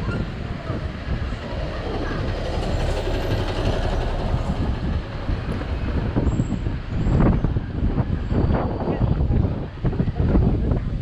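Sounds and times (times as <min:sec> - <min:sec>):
loud rumbling vehicle noise: 0:00.0 - 0:11.0.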